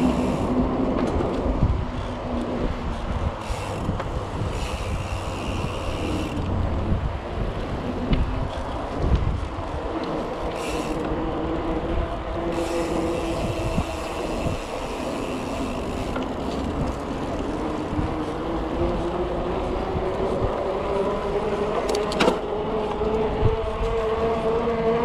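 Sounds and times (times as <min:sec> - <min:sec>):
bike wheels whirring on asphalt: 0:00.0 - 0:25.0
wind rumble on microphone: 0:00.0 - 0:25.0.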